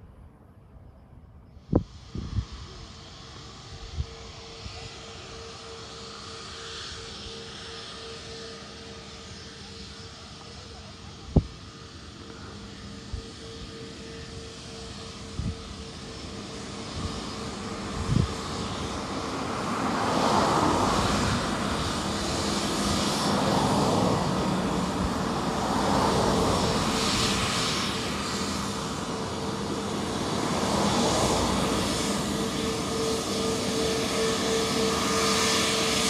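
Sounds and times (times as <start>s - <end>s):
jet engines humming: 0.0s - 36.0s.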